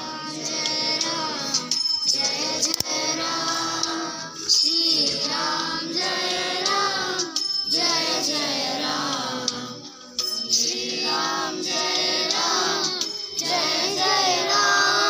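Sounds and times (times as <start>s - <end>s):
children singing in unison: 0.0s - 15.0s
jingling hand percussion: 0.0s - 15.0s.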